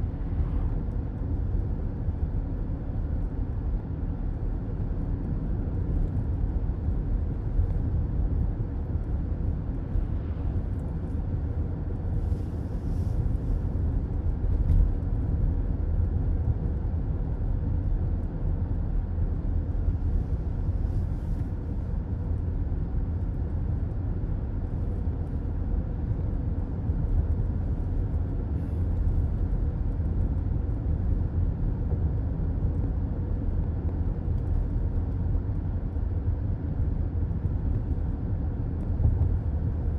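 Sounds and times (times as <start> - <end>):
car road noise from inside: 0.0 - 39.9.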